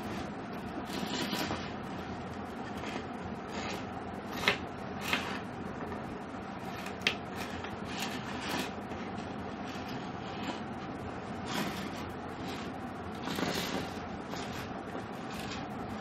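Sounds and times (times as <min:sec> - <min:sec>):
wire clicks and scrapes: 0:00.0 - 0:06.0, 0:06.6 - 0:16.0
steady background hum: 0:00.0 - 0:16.0.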